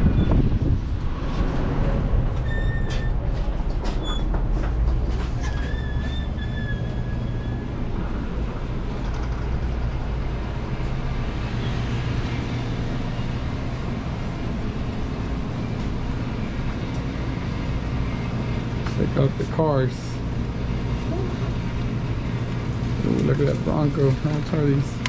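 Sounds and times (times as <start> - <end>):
coolers humming and hissing: 0.1 - 25.0.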